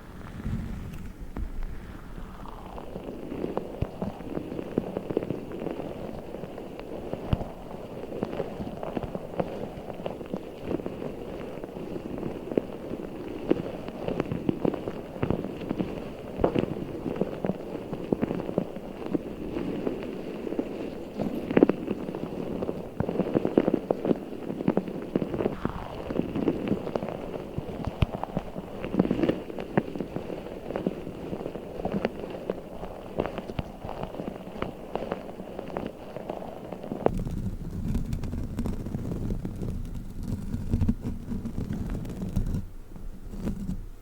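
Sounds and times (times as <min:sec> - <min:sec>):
water-bead ball crackling: 0:01.4 - 0:43.8.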